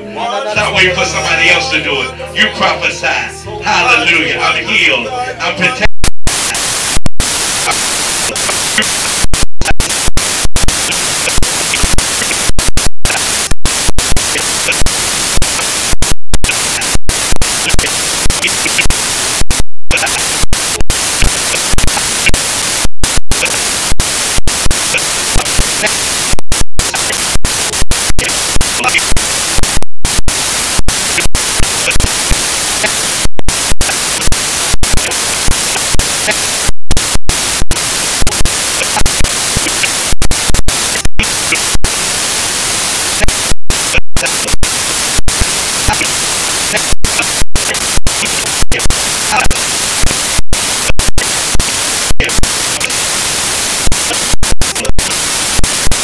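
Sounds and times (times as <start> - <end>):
digital static hiss: 5.6 - 56.0
digital glitches: 5.8 - 56.0.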